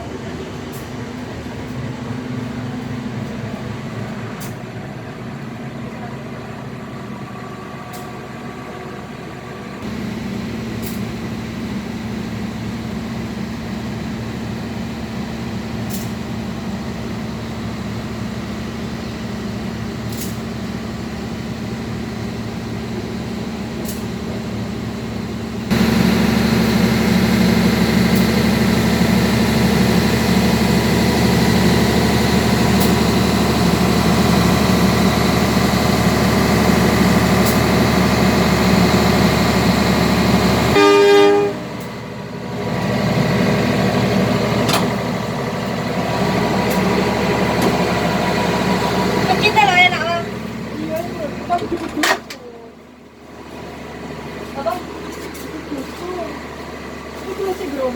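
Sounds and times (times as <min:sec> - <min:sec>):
train running on rails: 0:00.0 - 0:57.9.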